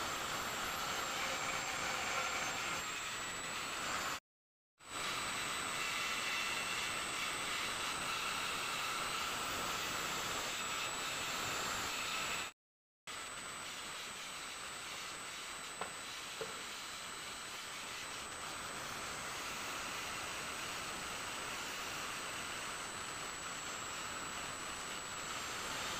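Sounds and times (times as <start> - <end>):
angle grinder grinding steel: 0.0 - 4.2, 5.0 - 12.5, 13.2 - 25.9.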